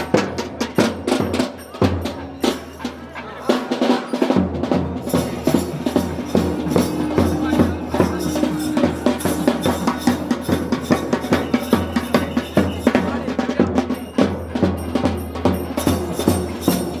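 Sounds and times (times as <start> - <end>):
drums in fast dense rhythm: 0.0 - 17.0.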